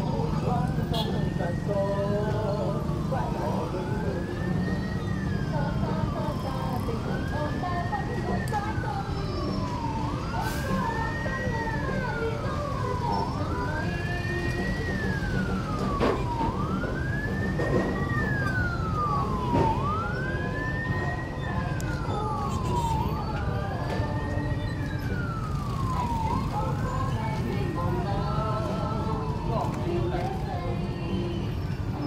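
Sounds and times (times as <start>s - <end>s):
emergency siren wailing: 0.0s - 32.0s
street noise: 0.0s - 32.0s.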